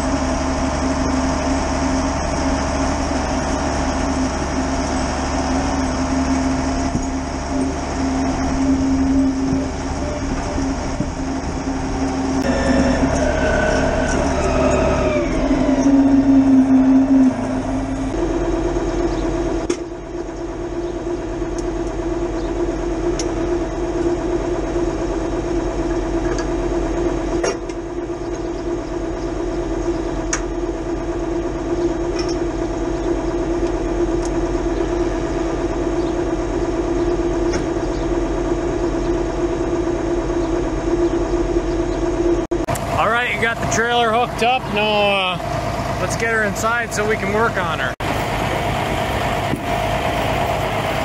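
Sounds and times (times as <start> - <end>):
tractor engine idling: 0.0 - 51.0.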